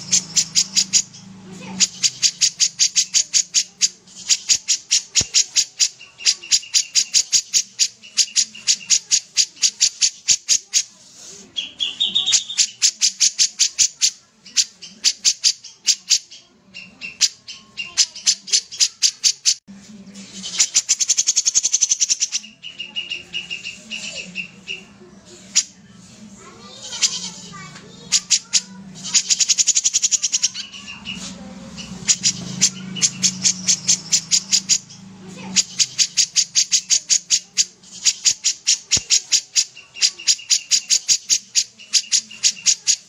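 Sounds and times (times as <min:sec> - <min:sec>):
bulbul singing rapid notes: 0:00.0 - 0:10.9, 0:11.5 - 0:24.9, 0:26.6 - 0:43.0.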